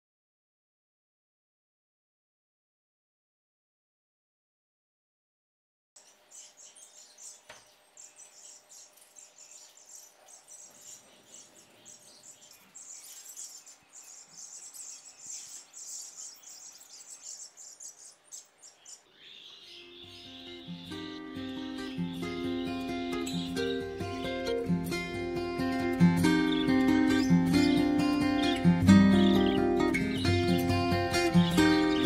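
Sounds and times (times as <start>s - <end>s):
high-pitched chirping of small animals: 6.0s - 32.0s.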